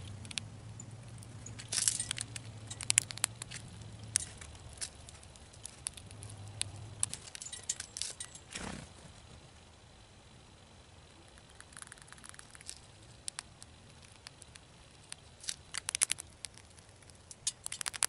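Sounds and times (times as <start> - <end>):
squirrel rummaging in birdseed: 0.0 - 9.4, 11.2 - 18.0.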